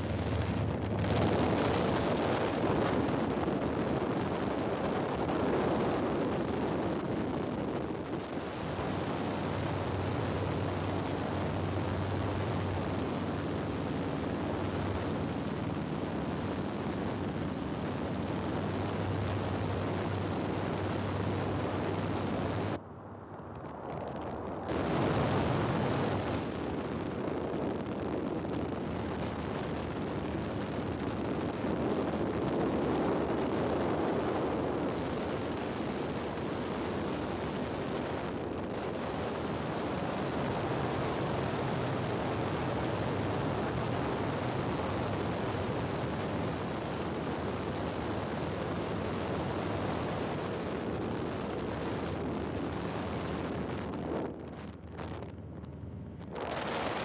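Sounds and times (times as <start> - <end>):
rush of wind: 0.0 - 57.0.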